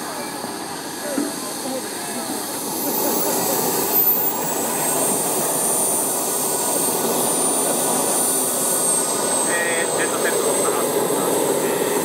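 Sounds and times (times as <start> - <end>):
high-pitched turbine whine: 0.0 - 12.0
model jet engine running: 0.0 - 12.0.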